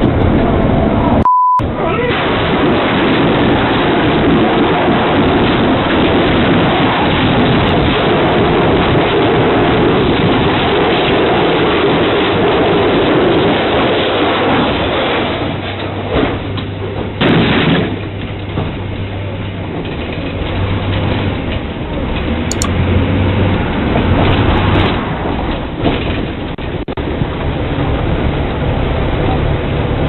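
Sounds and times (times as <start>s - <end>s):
bus engine drone: 0.0s - 30.0s
road rumble: 0.0s - 30.0s.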